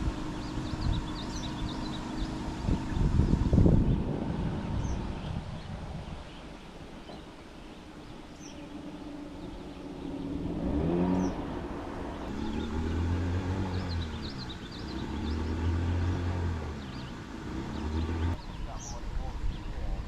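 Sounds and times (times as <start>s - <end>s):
engine revving: 0.0s - 5.8s, 8.0s - 18.9s
birds chirping: 0.0s - 20.0s.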